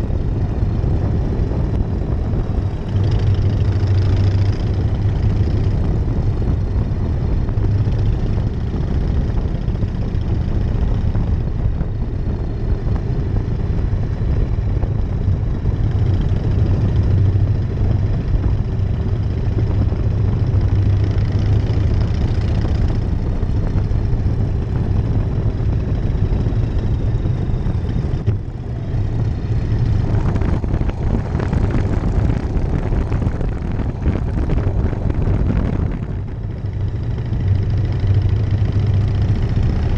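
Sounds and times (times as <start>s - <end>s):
motorcycle engine and exhaust: 0.0s - 39.9s
wind rush: 0.0s - 39.9s.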